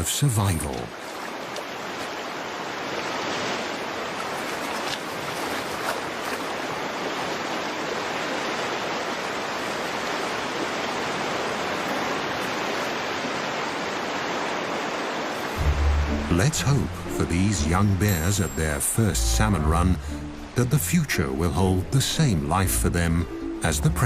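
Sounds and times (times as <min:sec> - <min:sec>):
rushing stream water: 0:00.0 - 0:24.0.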